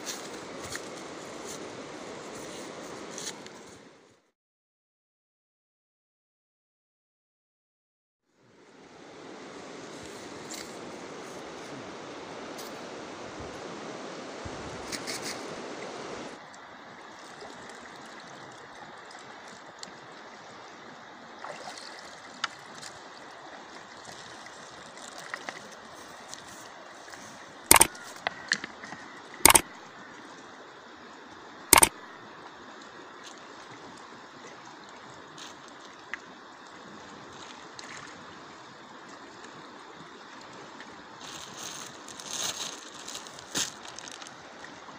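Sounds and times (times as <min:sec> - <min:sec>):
river flowing over stones: 0:08.4 - 0:44.9.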